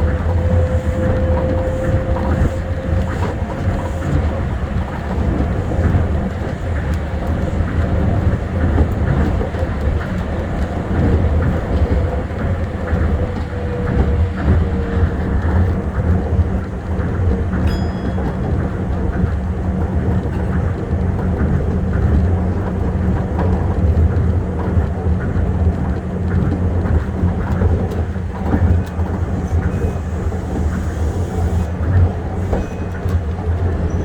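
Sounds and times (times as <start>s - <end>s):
monorail train low rumble: 0.0s - 34.0s.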